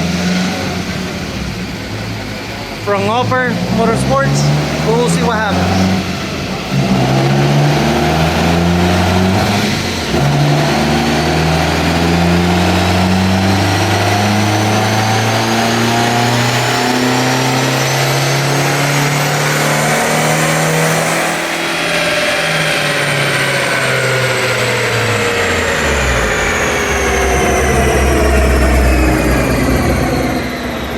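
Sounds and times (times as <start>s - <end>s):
car engine revving under load: 0.0s - 30.9s
thin turbo whine: 0.0s - 30.9s.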